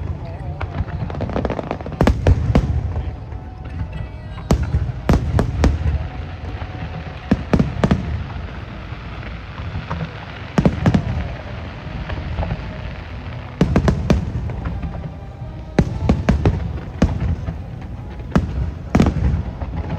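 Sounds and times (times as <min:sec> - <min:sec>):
fireworks bursting with sharp bangs: 0:00.0 - 0:19.9
low rumble of fireworks display: 0:00.0 - 0:19.9.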